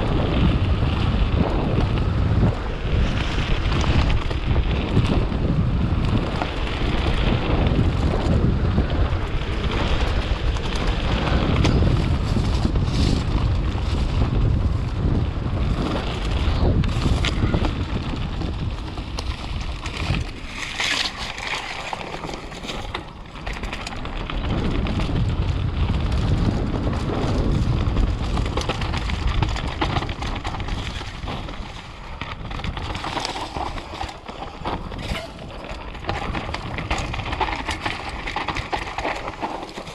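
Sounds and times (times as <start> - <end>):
mountain bike rolling and rattling: 0.0 - 39.9
wind rushing over microphone: 0.0 - 39.9
bike knocking over bumps: 3.2 - 39.9.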